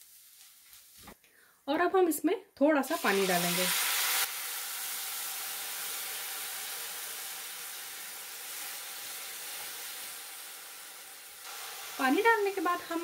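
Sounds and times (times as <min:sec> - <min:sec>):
water sizzling in hot oil: 0:00.0 - 0:01.2, 0:02.8 - 0:13.0.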